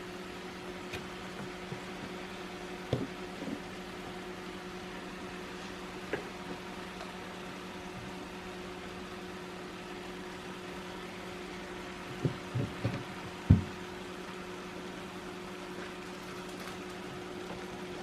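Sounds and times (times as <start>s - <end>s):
kitchen hum: 0.0s - 18.0s.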